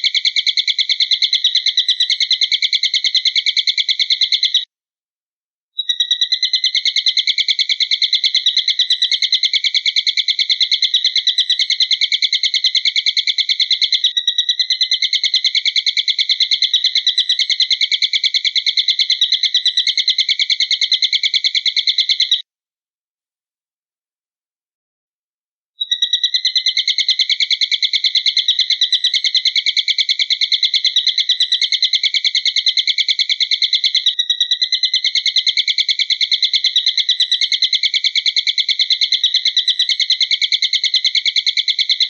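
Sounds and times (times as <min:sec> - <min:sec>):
bird trilling: 0:00.0 - 0:04.7, 0:05.8 - 0:22.4, 0:25.8 - 0:42.0.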